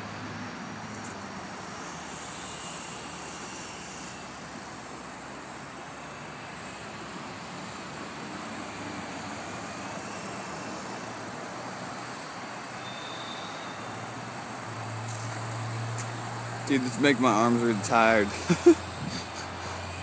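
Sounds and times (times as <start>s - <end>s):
low engine hum: 0.0s - 20.0s
road traffic noise: 0.0s - 20.0s.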